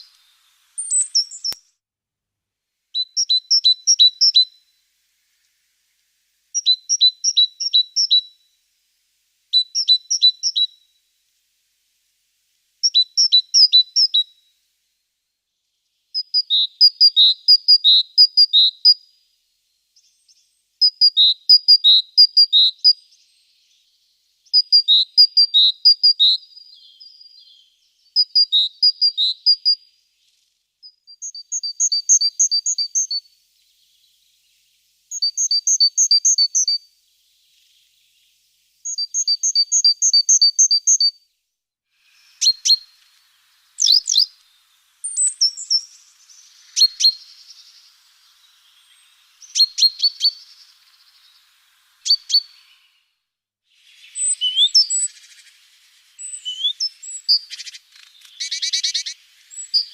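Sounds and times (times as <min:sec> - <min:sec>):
small songbird singing: 0:00.0 - 0:01.8, 0:02.9 - 0:12.1, 0:12.7 - 0:59.9.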